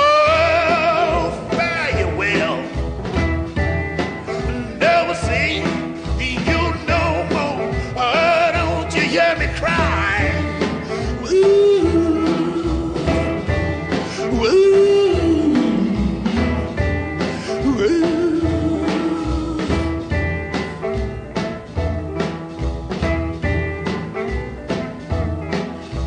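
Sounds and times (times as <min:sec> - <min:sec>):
blues country song: 0:00.0 - 0:26.0.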